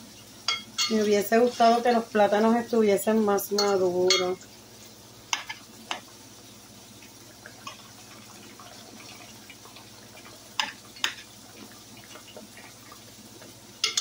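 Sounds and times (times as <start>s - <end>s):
plantain frying in oil: 0.0s - 14.0s.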